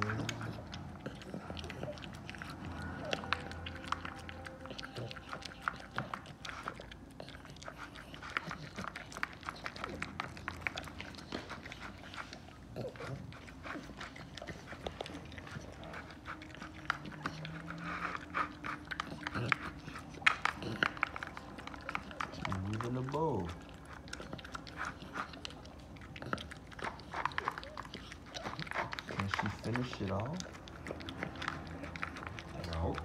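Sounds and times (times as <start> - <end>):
dog chomping and lip-smacking: 0.0 - 33.0.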